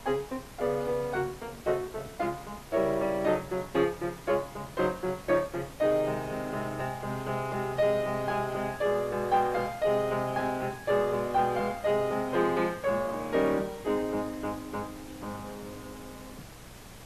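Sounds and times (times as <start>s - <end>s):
slow classical piano melody: 0.0s - 16.5s.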